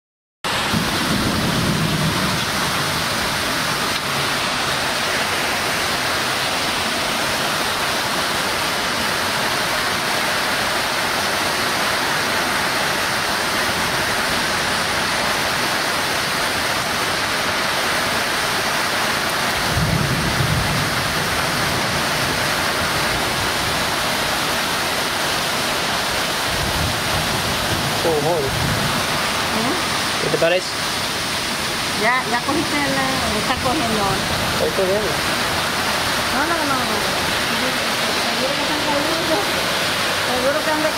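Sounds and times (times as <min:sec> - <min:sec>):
heavy rain: 0:00.4 - 0:40.9.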